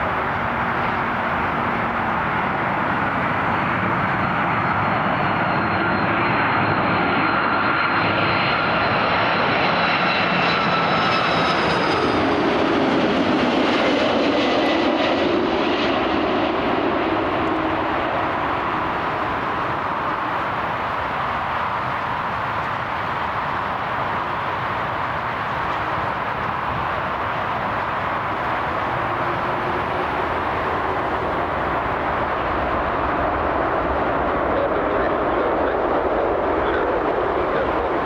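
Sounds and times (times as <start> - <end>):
airliner engines passing: 0.0 - 38.0.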